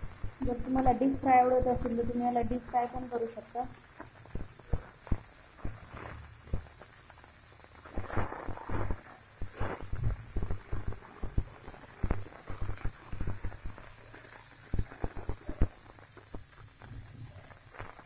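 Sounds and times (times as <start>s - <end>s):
hot oil crackling and popping: 0.0s - 18.0s.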